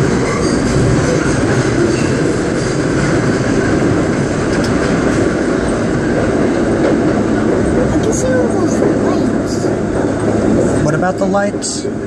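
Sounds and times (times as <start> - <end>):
subway car wheels rumbling: 0.0 - 12.0.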